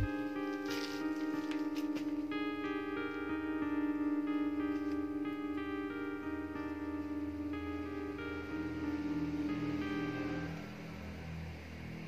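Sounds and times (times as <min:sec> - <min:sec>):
keyboard playing sustained notes: 0:00.0 - 0:12.0.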